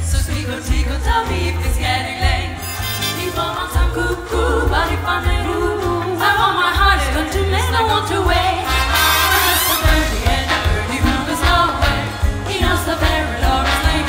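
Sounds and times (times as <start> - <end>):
big band music with singing: 0.0 - 14.0.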